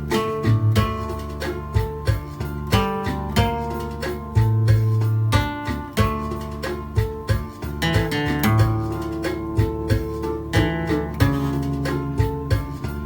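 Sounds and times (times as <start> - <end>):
acoustic guitar melody: 0.0 - 13.0.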